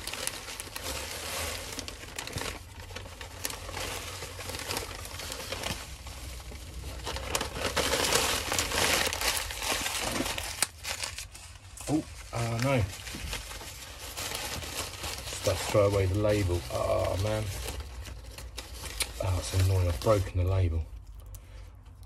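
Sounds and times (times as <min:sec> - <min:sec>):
paper crumpling and rustling: 0:00.0 - 0:21.2.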